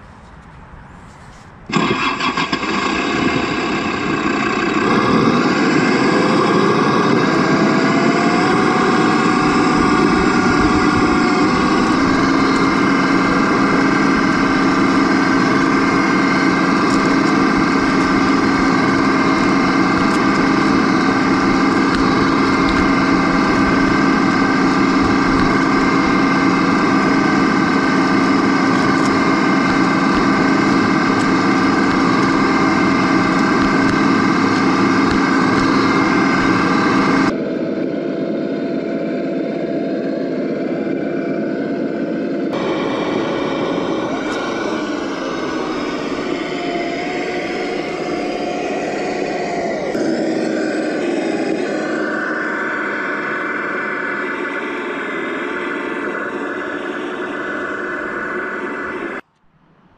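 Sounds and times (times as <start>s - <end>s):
remote-control truck motor running: 1.0s - 59.9s.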